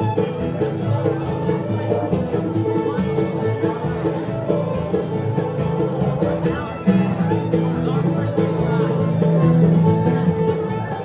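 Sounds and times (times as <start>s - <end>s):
bluegrass band playing: 0.0s - 11.0s.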